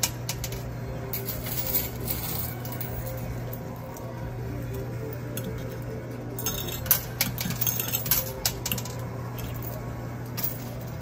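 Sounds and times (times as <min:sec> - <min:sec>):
coins clinking together: 0:00.0 - 0:11.0
steady low hum: 0:00.0 - 0:11.0.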